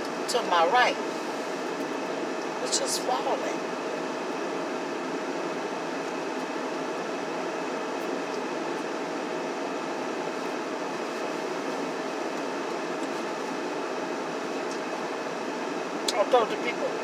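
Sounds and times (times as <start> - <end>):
constant low hum: 0.0 - 17.0
heater fan whirring: 0.0 - 17.0.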